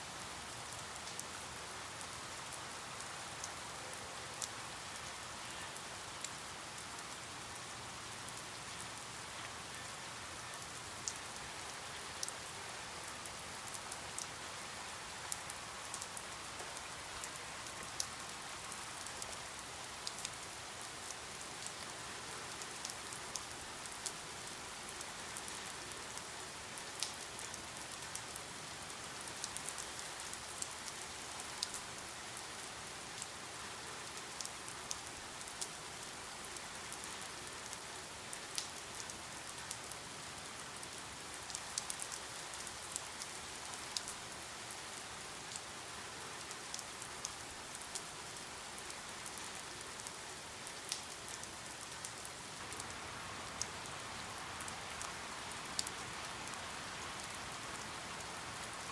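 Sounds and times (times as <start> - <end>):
steady rain falling: 0.0 - 58.9
raindrops ticking on a surface: 0.3 - 58.9.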